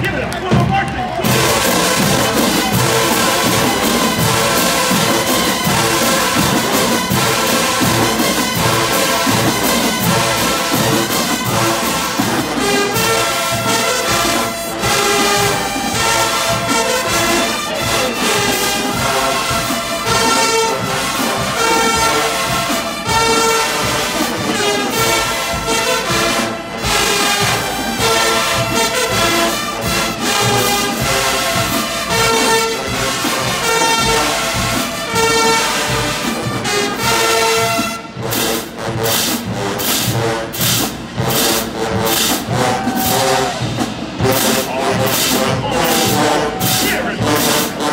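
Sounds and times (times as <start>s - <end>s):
marching band brass chords: 0.0s - 47.9s
rhythmic percussion strikes: 0.0s - 47.9s.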